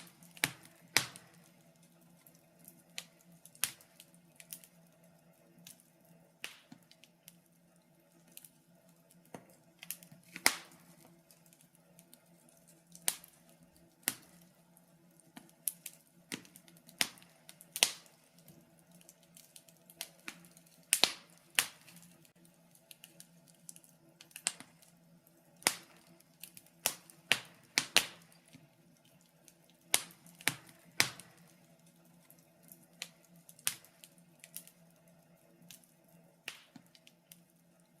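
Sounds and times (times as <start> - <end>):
faint steady hum: 0.0 - 38.0
wood fire crackling: 0.0 - 38.0.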